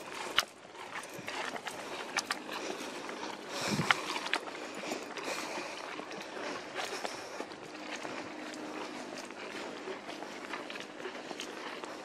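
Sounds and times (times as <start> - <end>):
footsteps on dirt trail: 0.0 - 12.0.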